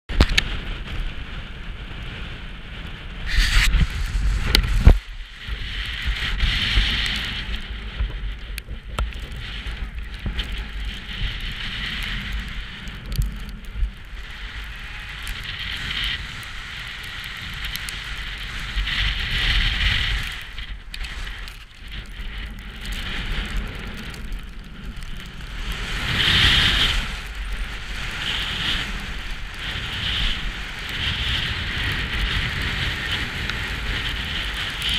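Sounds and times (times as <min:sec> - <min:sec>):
wind rumbling on microphone: 0:00.1 - 0:34.9
skis scraping over snow: 0:00.5 - 0:34.9.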